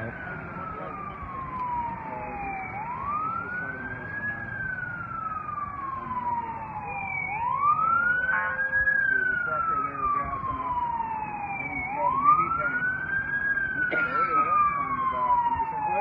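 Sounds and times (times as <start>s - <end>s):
fire truck siren wailing: 0.0s - 16.0s.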